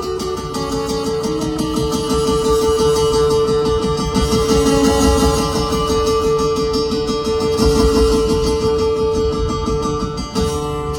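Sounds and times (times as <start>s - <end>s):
strummed guitar music: 0.0s - 10.9s.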